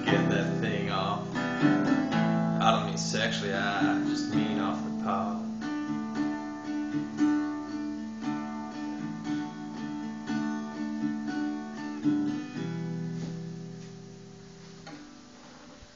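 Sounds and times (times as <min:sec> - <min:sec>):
acoustic guitar strumming: 0:00.0 - 0:15.9.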